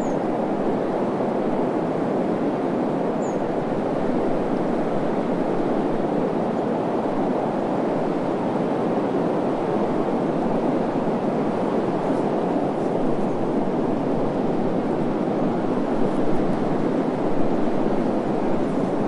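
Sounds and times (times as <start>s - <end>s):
steady wind: 0.0s - 19.0s.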